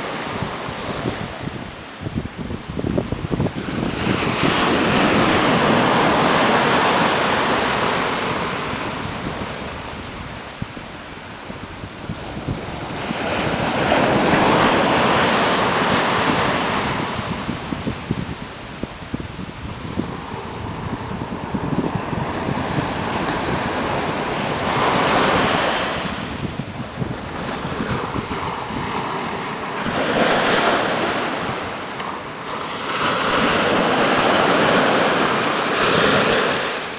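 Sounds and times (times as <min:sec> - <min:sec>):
surf hissing on beach: 0:00.0 - 0:36.9
wind buffeting microphone: 0:00.0 - 0:36.9.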